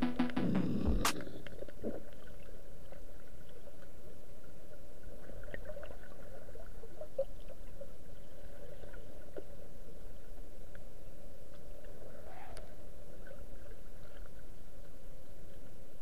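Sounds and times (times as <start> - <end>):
faint ticks and crackles: 0.0 - 16.0.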